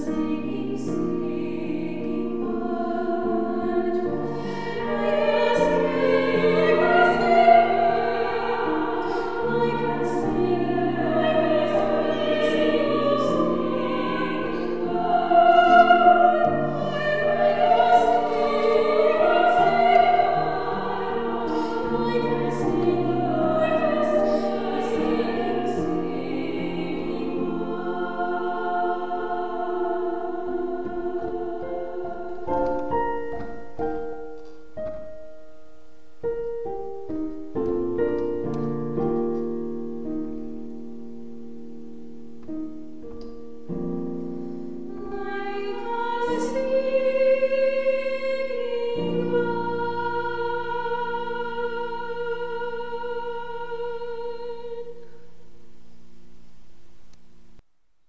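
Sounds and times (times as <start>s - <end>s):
two people singing in harmony: 0.0s - 35.4s, 43.7s - 55.4s.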